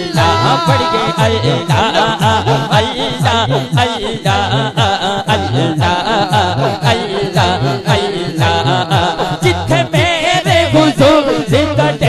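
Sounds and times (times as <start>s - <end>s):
low chanted line: 0.0s - 9.7s
man singing through microphone: 0.0s - 12.0s.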